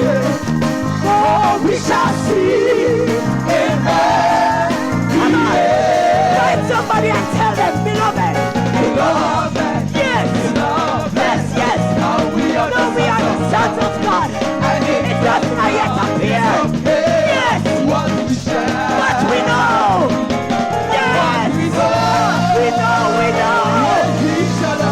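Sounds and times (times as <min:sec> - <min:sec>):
bass and drums beat: 0:00.0 - 0:24.9
church band playing: 0:00.0 - 0:24.9.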